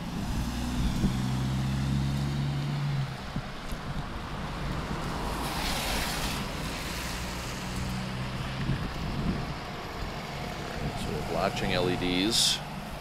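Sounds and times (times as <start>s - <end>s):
passing car rush: 0.0s - 13.0s
traffic engine hum: 0.0s - 13.0s.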